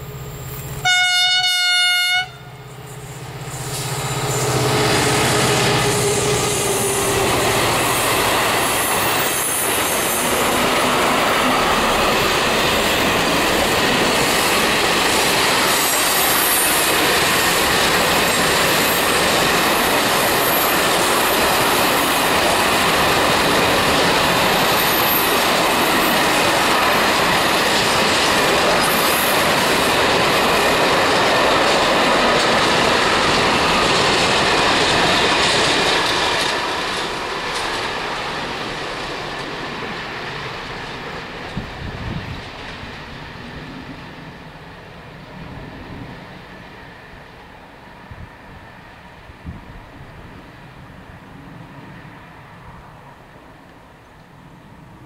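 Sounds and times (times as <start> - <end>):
diesel locomotive engine drone: 0.0 - 55.0
freight train rolling past: 0.0 - 55.0.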